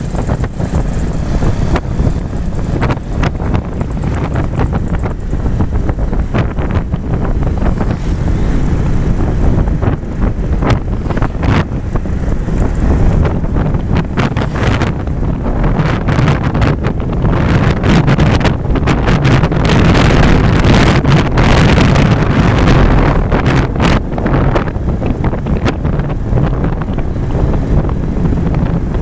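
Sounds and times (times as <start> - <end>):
low engine and road rumble: 0.0 - 29.0
wind buffeting microphone: 0.0 - 29.0.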